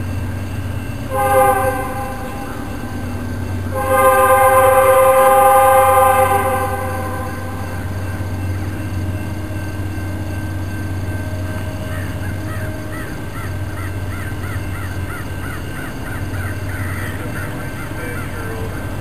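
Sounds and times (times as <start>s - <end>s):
freight train cars rumbling: 0.0s - 19.0s
bird calling: 0.2s - 19.0s.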